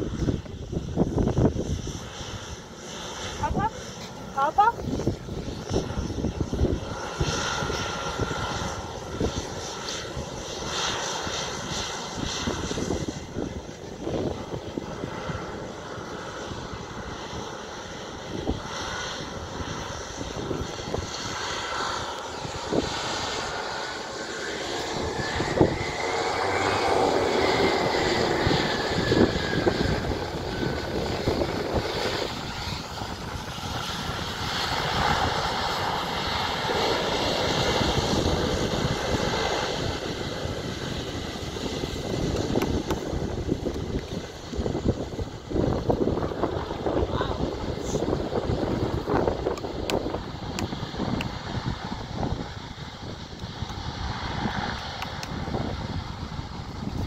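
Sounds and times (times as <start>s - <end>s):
airliner engines droning with whine: 0.0s - 57.0s.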